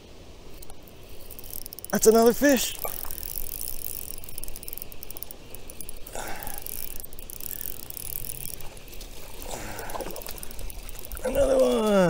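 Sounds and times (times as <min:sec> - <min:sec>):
fishing reel clicking: 0:00.5 - 0:11.9.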